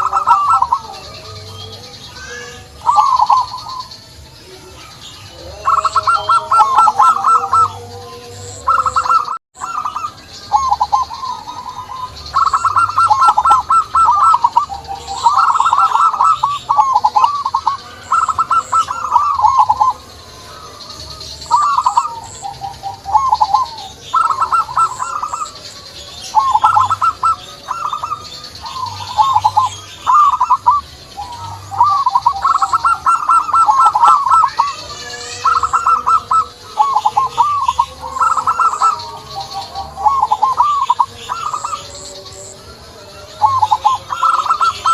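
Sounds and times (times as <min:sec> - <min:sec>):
doves cooing: 0:00.0 - 0:44.9
small birds chirping: 0:00.0 - 0:44.9.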